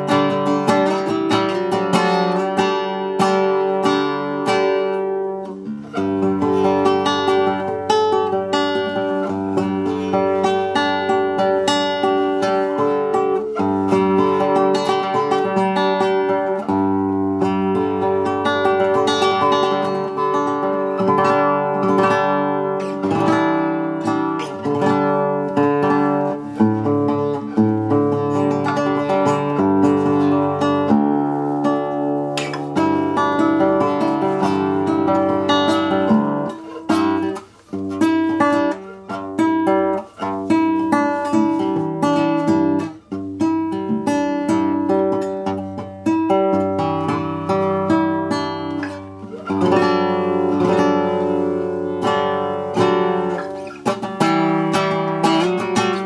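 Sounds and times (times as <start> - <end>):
acoustic guitar plucked and strummed: 0.0 - 56.0.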